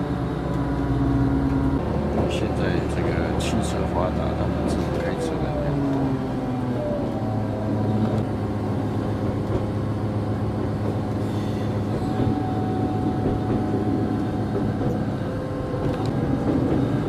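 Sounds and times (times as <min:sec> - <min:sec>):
low train drone: 0:00.0 - 0:17.0
train wheels rumbling on rails: 0:00.0 - 0:17.0.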